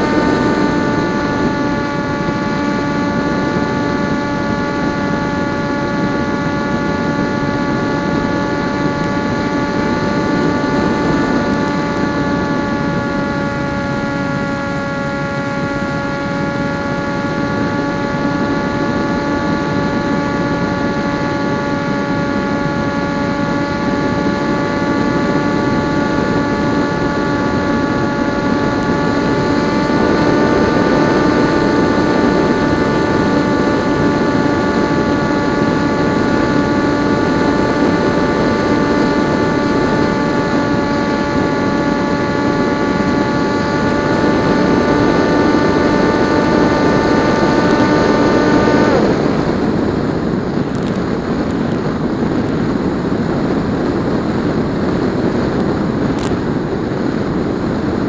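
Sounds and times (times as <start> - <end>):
electric motor whine: 0.0 - 58.0.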